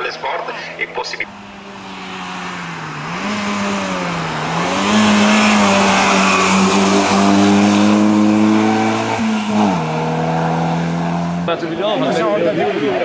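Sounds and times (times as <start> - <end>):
race car engine at high revs: 0.8 - 13.0.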